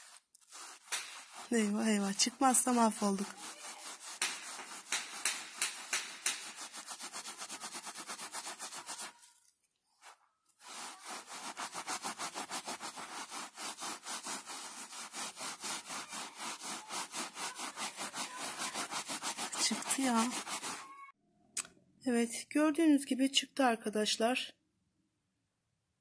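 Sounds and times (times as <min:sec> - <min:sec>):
cloth scrubbing carpet: 0:00.0 - 0:21.1.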